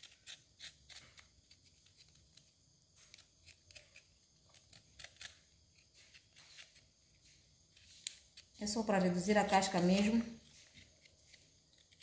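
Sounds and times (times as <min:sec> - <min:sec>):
scraping ginger skin: 0:00.0 - 0:12.0.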